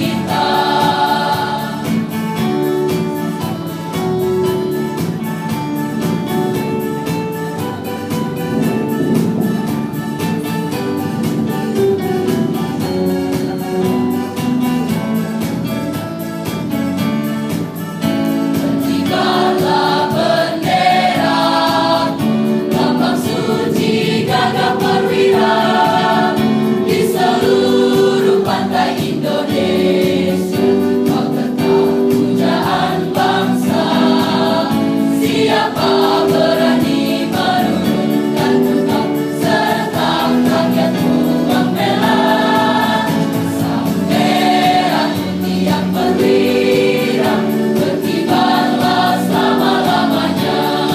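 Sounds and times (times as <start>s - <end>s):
mixed choir singing: 0.0s - 50.9s.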